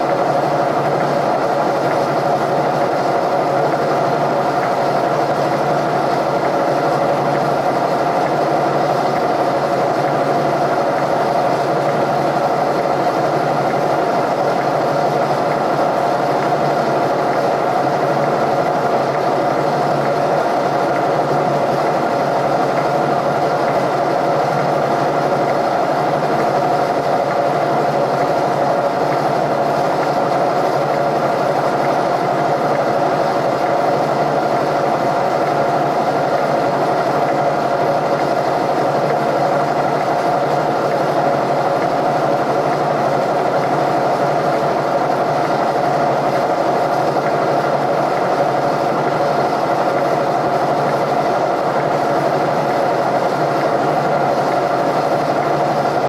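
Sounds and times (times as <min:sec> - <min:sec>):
milling machine hum: 0:00.0 - 0:56.0.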